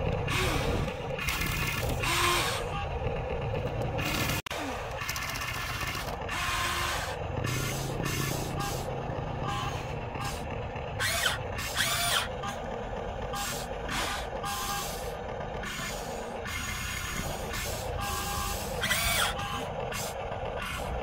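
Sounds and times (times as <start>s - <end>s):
electric motors whirring: 0.0s - 21.0s.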